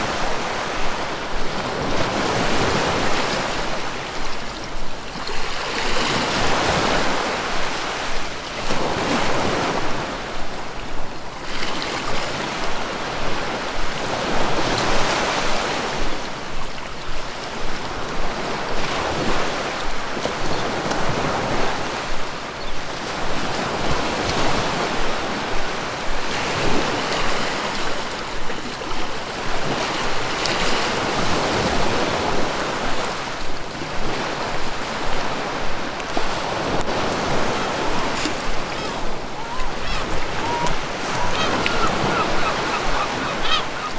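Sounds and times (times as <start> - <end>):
ocean waves breaking on beach: 0.0 - 43.9.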